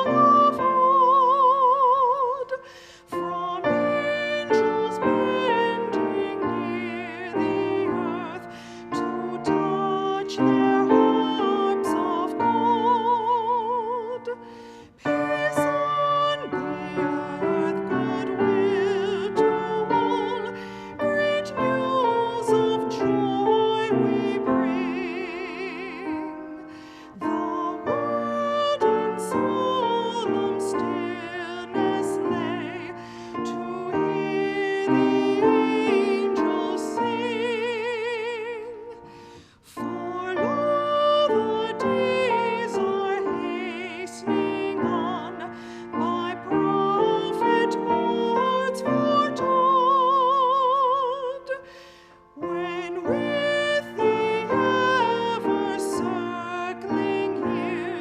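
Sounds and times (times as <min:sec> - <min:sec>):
hymn sung with vibrato: 0:00.0 - 0:58.0
piano accompaniment: 0:00.0 - 0:58.0.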